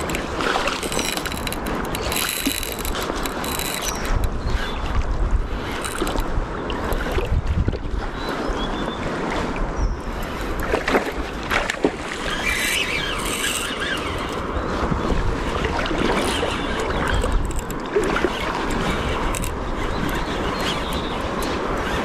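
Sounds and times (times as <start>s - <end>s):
river water: 0.0s - 22.0s
wind buffeting microphone: 0.0s - 22.0s.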